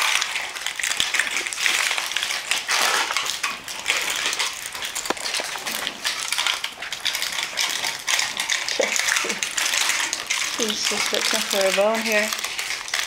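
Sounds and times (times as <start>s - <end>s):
puppies chewing crinkling package: 0.0s - 13.0s.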